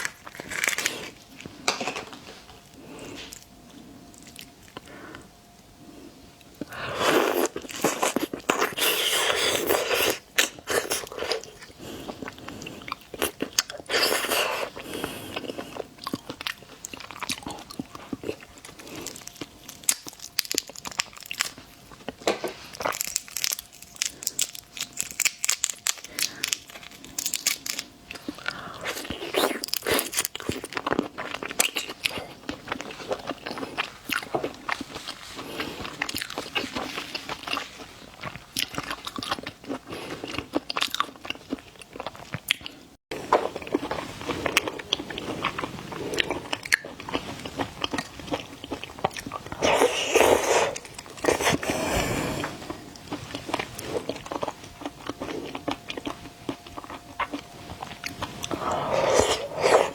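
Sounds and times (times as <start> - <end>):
crunchy chewing: 0.0 - 5.3, 6.4 - 59.9.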